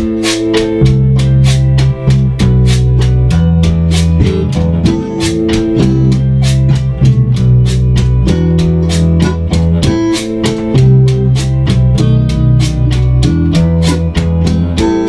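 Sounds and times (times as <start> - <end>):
electric bass: 0.0 - 15.0
electric guitar: 0.0 - 15.0
live salsa band: 0.0 - 15.0
steady drum beat: 0.0 - 15.0.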